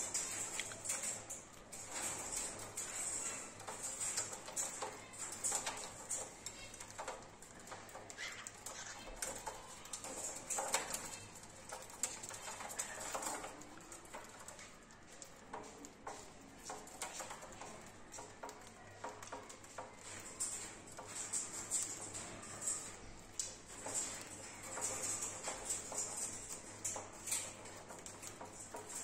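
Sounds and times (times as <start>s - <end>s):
birds pecking and cracking seeds: 0.0s - 29.0s.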